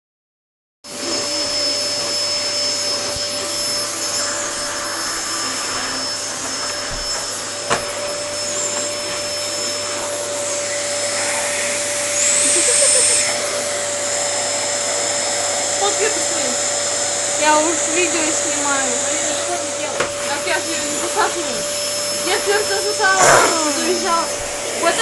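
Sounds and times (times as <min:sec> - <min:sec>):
vacuum cleaner running: 0:00.8 - 0:25.0.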